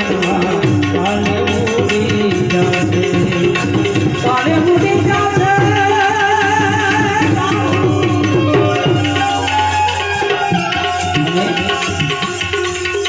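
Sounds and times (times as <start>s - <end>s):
person singing: 0.0s - 12.2s
hand drum rhythm: 0.0s - 13.0s
harmonium holding notes: 0.0s - 13.0s.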